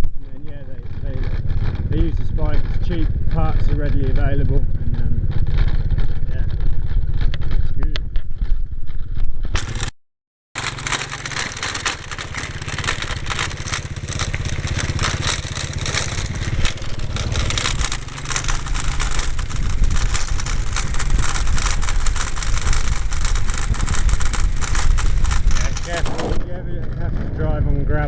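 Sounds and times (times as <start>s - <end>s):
wind noise on microphone: 0.0s - 9.7s, 14.1s - 28.0s
motorbike engine running: 0.0s - 10.0s, 10.6s - 28.0s
tyres crunching over gravel: 0.3s - 7.9s, 10.6s - 28.0s.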